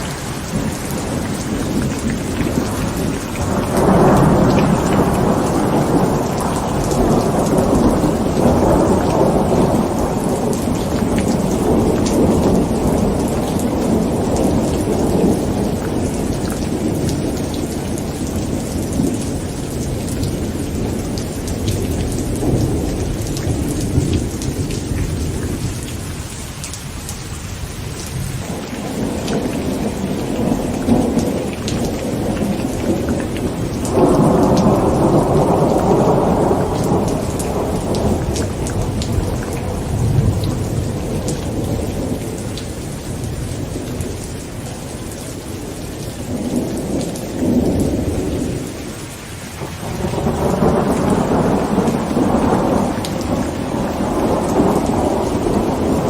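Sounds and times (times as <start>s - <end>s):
thunder rolling: 0.0s - 26.0s, 28.2s - 44.8s, 49.6s - 56.0s
heavy rain on a tent: 0.0s - 56.0s.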